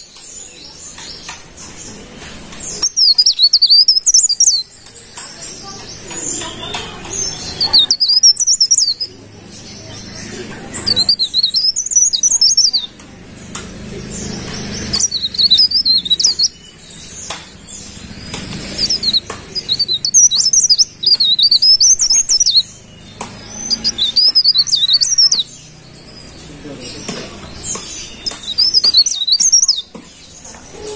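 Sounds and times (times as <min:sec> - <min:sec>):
leaf warbler singing trills: 0:00.0 - 0:30.9.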